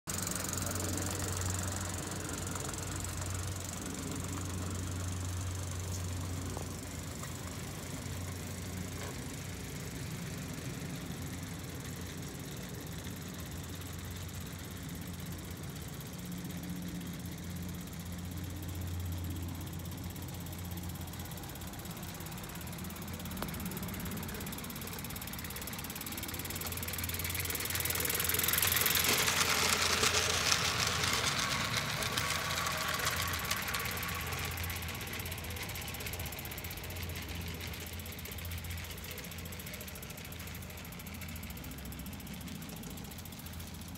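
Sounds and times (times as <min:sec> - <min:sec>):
model train rushing on rails: 0:00.0 - 0:43.9.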